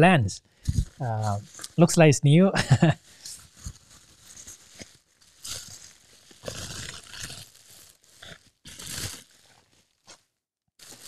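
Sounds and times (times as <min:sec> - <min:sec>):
bubble wrap crinkling: 0:00.6 - 0:01.8, 0:02.7 - 0:11.0.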